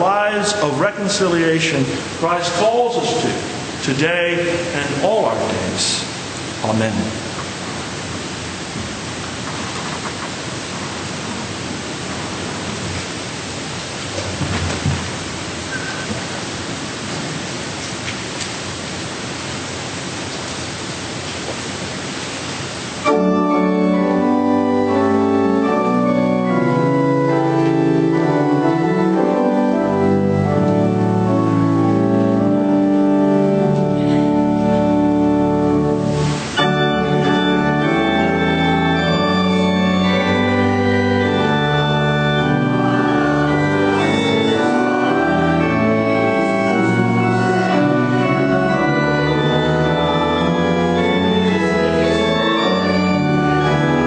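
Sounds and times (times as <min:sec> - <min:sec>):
organ music chords: 0:00.0 - 0:17.0, 0:23.0 - 0:54.0
steady hiss: 0:00.0 - 0:54.0.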